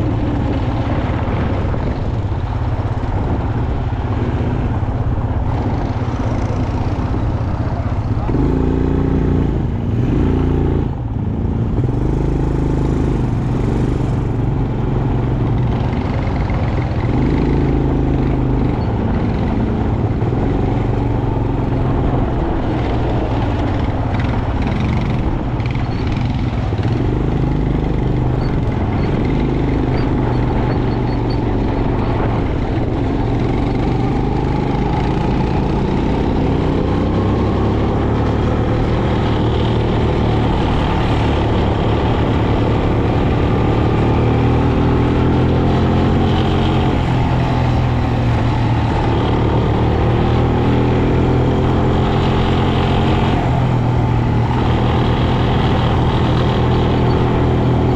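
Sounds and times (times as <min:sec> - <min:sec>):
quad bike engine revving: 0:05.5 - 0:57.9.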